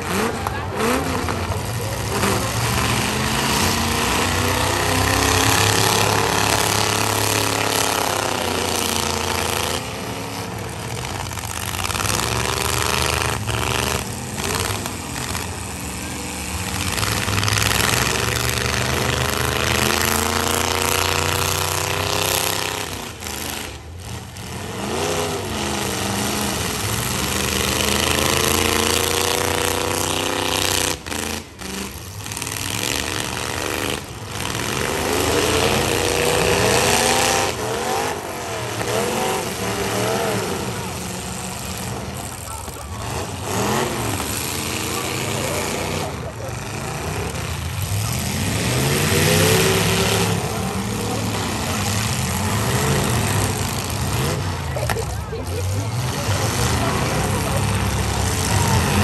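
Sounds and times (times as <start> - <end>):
truck engines revving: 0.0 - 59.0
trucks crashing: 0.0 - 59.0.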